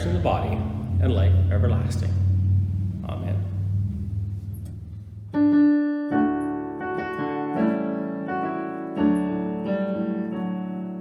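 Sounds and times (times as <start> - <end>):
slow piano notes and chords: 0.0 - 11.0.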